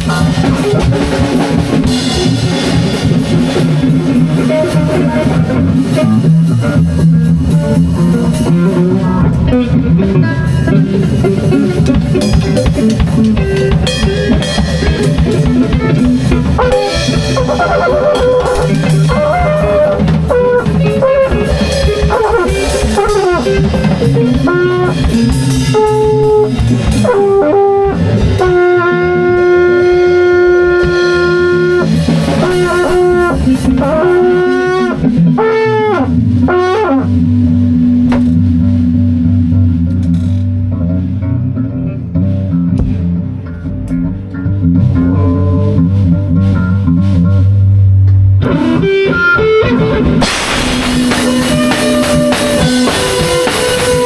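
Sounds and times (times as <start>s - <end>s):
drums and cymbals: 0.0s - 39.2s, 48.5s - 54.0s
held pitched lead line: 0.0s - 54.0s
low bass notes: 0.0s - 54.0s.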